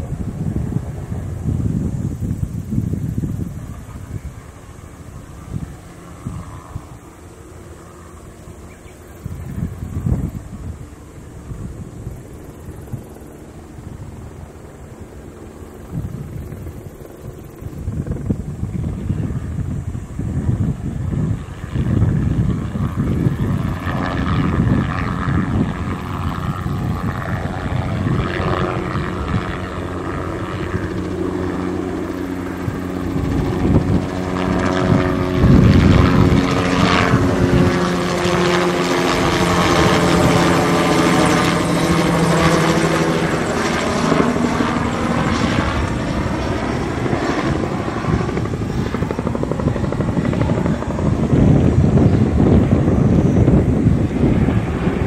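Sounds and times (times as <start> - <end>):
helicopter passing overhead: 0.0 - 55.0.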